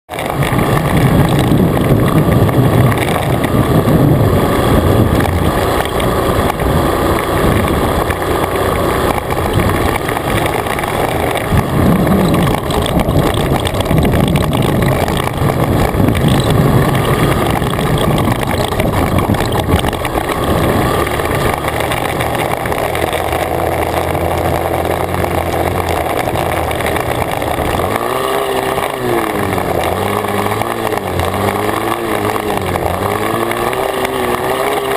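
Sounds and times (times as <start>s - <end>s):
dirt bike engine running: 0.1s - 34.9s.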